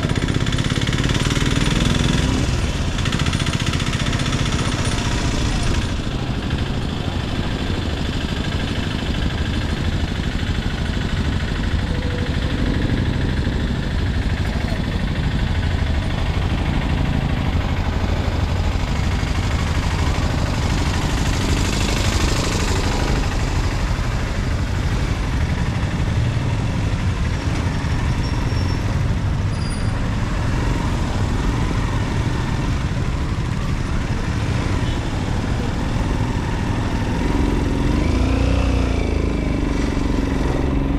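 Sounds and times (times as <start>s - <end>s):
motorcycle engine running: 0.0s - 40.9s
street traffic: 0.0s - 40.9s.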